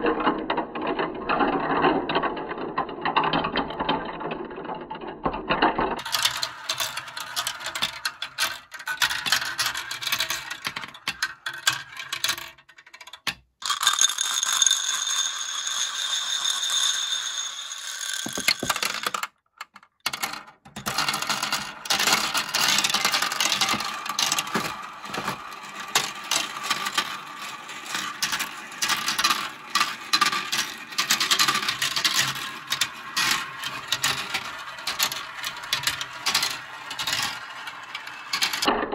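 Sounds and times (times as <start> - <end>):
marbles clattering down plastic run: 0.3 - 38.9.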